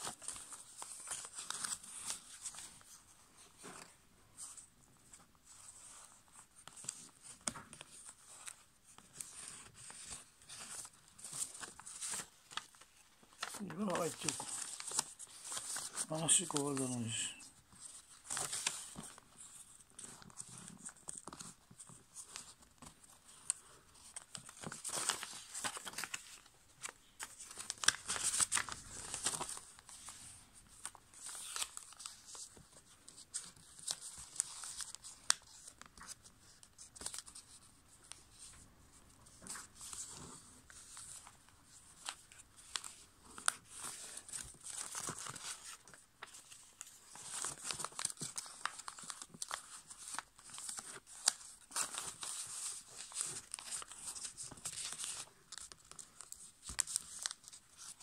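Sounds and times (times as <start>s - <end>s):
paper rustling and crinkling: 0.0s - 58.0s
paper folds clicking: 5.6s - 17.0s, 17.8s - 30.2s, 30.8s - 38.4s, 40.7s - 58.0s.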